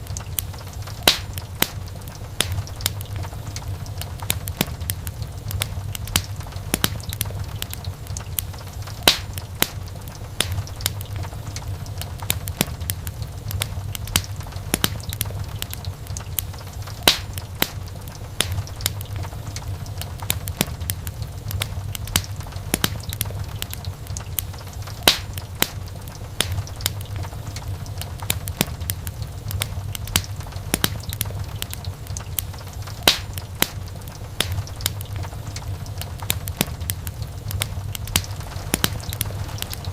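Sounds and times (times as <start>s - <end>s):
sharp snaps and pops: 0.0s - 39.9s
wood fire crackling: 0.0s - 39.9s.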